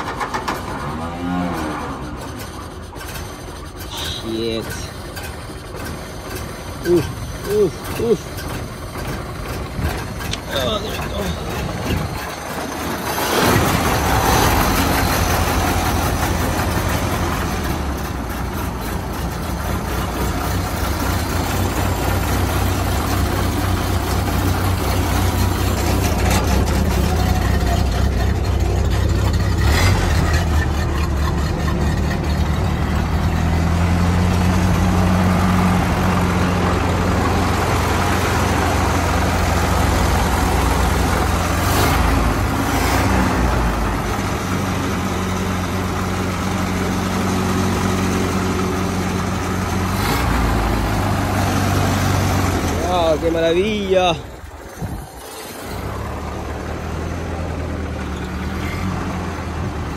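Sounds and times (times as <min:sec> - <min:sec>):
car engine idling: 0:01.8 - 0:59.9.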